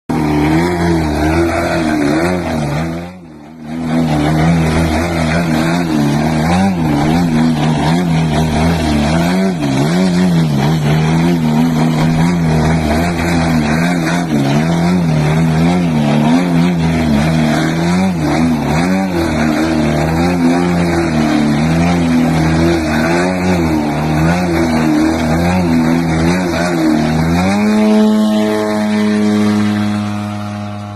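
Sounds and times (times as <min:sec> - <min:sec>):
model plane engine running: 0:00.1 - 0:30.9.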